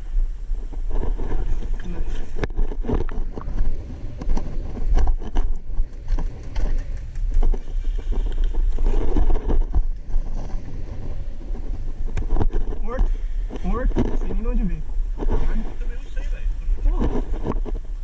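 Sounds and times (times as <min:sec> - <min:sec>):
microphone rumble and rustle: 0:00.0 - 0:18.0.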